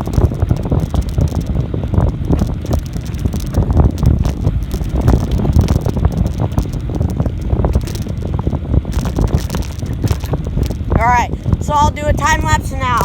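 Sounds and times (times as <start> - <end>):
bicycle knocks and rattles: 0.0 - 11.6
wind buffeting microphone: 0.0 - 13.0.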